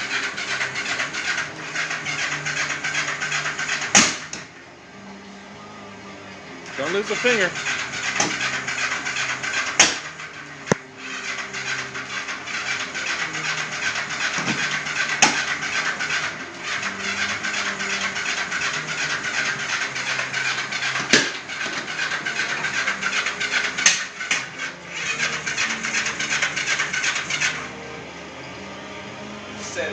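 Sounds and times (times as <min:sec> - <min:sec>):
engine cranking on starter: 0:00.0 - 0:04.5, 0:06.6 - 0:27.8.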